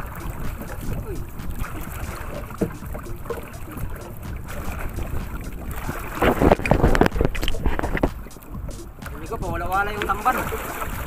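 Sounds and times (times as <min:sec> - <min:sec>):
water lapping at canoe: 0:00.0 - 0:11.0
water splashing against boat: 0:00.0 - 0:11.0
wind buffeting microphone: 0:00.0 - 0:11.0.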